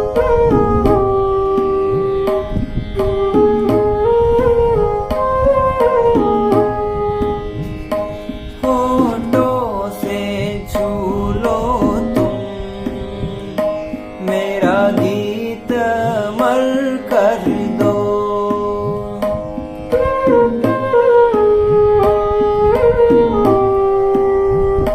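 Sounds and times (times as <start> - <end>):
held drone notes: 0.0 - 24.9
light hand drum strokes: 0.0 - 24.9.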